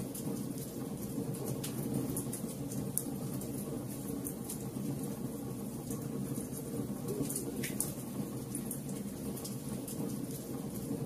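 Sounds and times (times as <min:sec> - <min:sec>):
logs crackling and popping: 0:00.0 - 0:05.2, 0:05.8 - 0:10.9
flames rumbling: 0:00.0 - 0:11.0.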